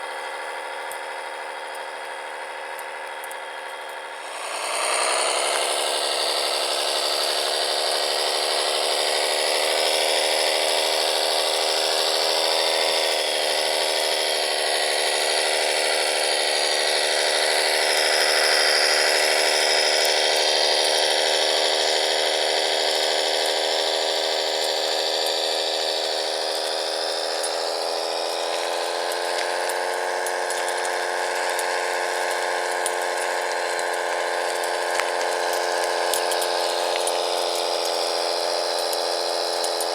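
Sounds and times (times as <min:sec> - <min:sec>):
electric motor and gear whine: 0:00.0 - 0:39.9.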